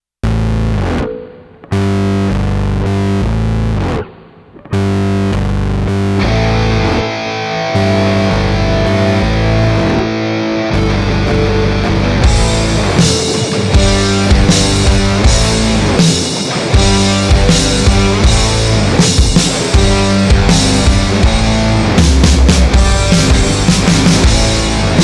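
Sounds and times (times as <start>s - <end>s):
distorted electric guitar chords: 0.2s - 25.0s.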